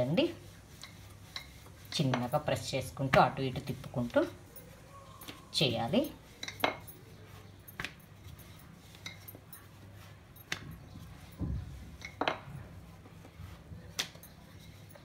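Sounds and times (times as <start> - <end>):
rolling pin rolling dough: 0.0 - 15.0.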